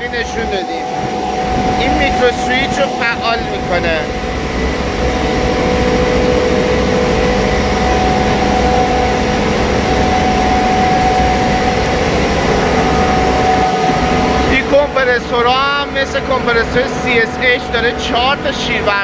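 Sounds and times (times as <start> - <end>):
compressor humming: 0.0 - 19.0
steady tones: 0.0 - 19.0.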